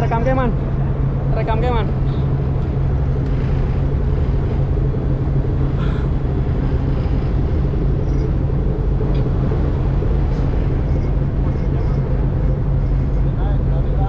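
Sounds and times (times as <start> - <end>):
boat engine drone: 0.0 - 14.0
water noise: 0.0 - 14.0.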